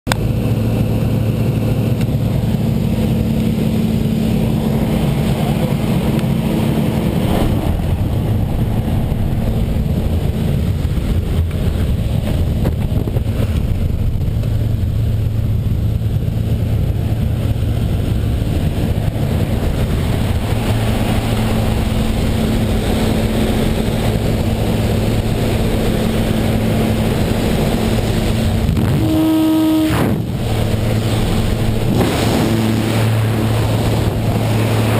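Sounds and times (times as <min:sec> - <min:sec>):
plane engine droning: 0:00.1 - 0:34.9
rush of air: 0:00.1 - 0:34.9.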